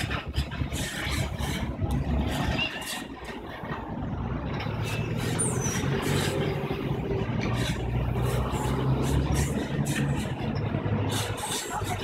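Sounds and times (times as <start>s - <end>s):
heavy vehicle humming: 0.0s - 12.0s.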